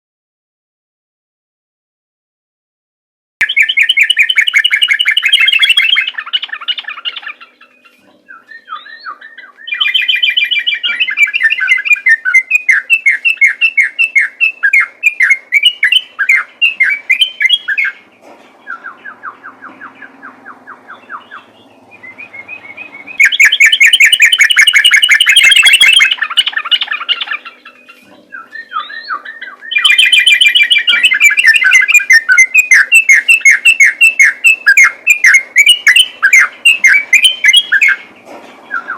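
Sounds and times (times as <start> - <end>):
bird singing rapid chatter: 3.4 - 38.9.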